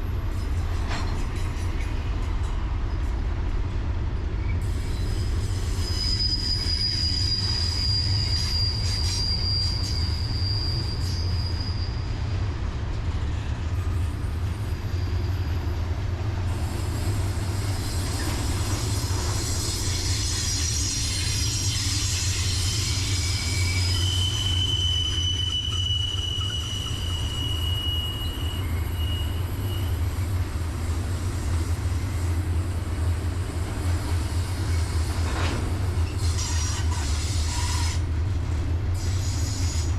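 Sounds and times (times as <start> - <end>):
train wheels squealing: 0.0 - 3.2, 4.2 - 12.5, 13.1 - 38.1, 38.9 - 39.9
freight train rumbling past: 0.0 - 39.9.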